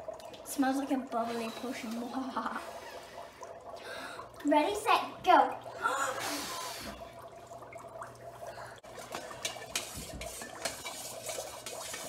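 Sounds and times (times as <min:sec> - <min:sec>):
dry ice bubbling: 0:00.0 - 0:12.0.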